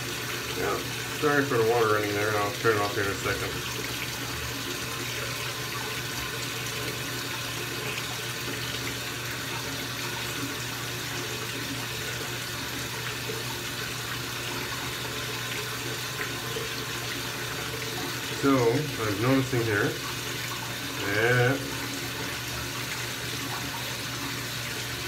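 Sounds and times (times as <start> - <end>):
tap water running: 0.0 - 25.0.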